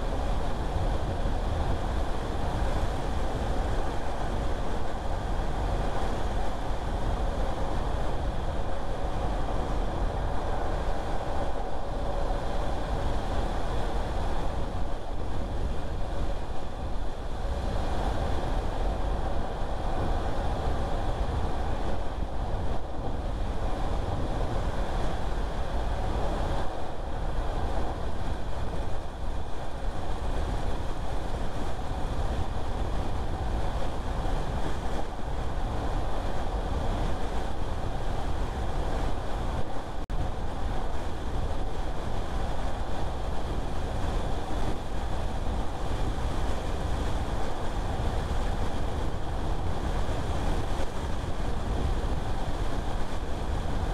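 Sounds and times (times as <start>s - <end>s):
wind noise: 0.0s - 53.9s.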